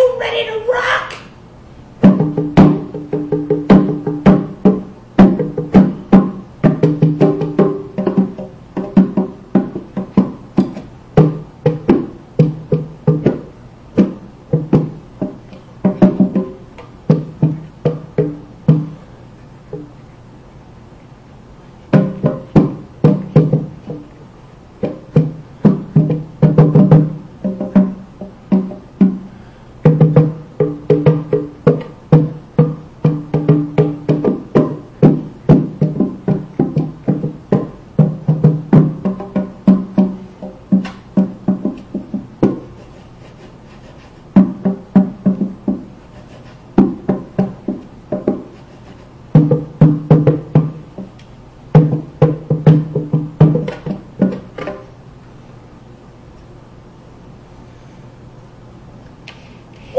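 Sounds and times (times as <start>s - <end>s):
bongo drums: 1.9s - 20.1s, 21.7s - 55.0s.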